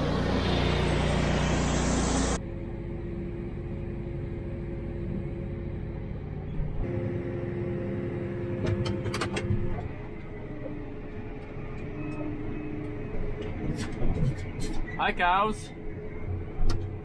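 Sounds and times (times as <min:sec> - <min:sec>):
tractor engine running: 0:00.0 - 0:14.5.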